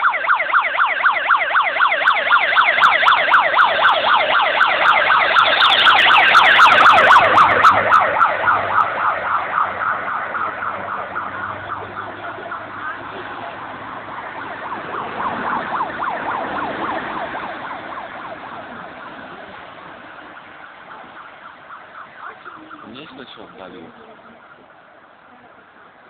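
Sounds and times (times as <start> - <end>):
vehicle siren yelping: 0.0 - 26.0.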